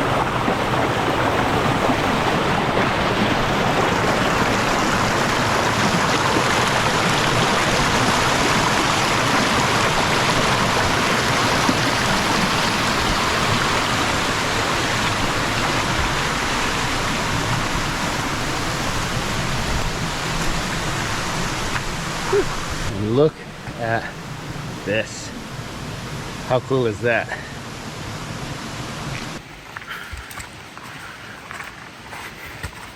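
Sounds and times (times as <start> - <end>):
stream water flowing over rocks: 0.0 - 32.9.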